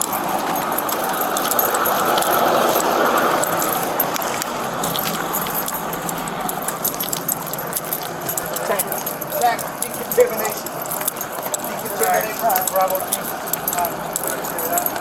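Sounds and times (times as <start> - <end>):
keys and metal gear jangling: 0.0 - 15.0
steady background rush: 0.0 - 15.0.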